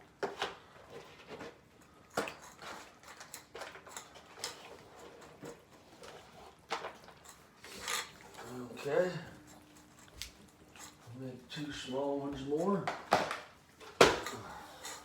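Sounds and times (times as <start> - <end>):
utensil clinking against dishes: 1.8 - 13.2, 13.8 - 15.0.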